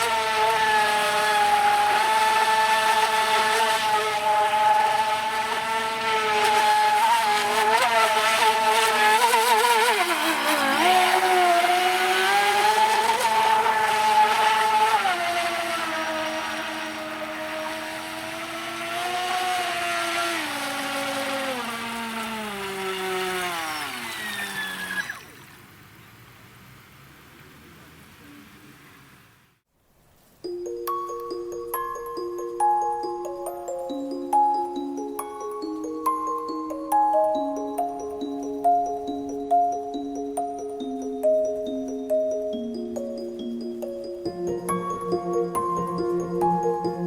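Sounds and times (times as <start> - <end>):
electric motor whining: 0.0 - 25.7, 31.0 - 47.0.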